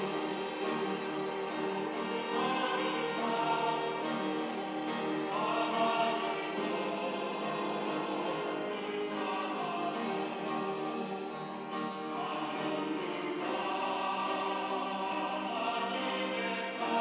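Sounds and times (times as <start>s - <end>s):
mixed choir singing: 0.0s - 17.0s.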